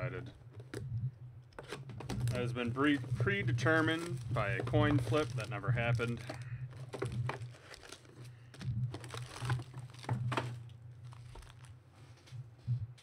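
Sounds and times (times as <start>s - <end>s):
foil wrappers crinkling: 1.6s - 12.3s.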